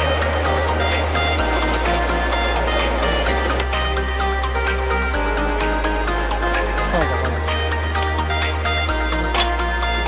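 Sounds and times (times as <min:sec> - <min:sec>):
sustained bass notes: 0:00.0 - 0:10.0.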